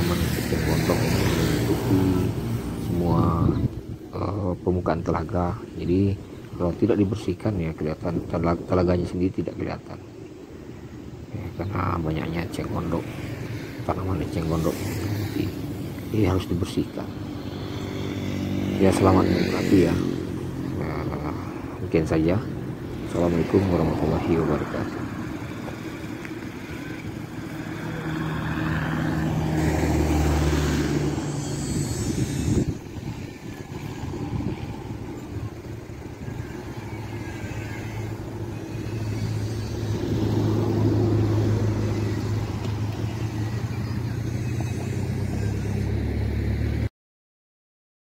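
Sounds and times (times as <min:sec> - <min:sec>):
vehicles driving past: 0:00.0 - 0:46.9.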